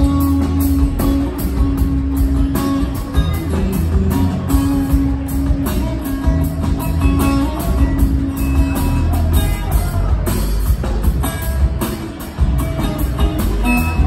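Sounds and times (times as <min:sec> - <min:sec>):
drums: 0:00.0 - 0:14.0.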